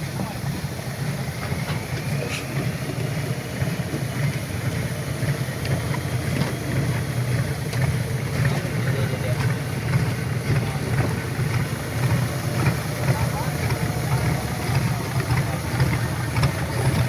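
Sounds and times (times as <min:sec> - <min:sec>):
boat diesel engine throbbing: 0:00.0 - 0:17.0.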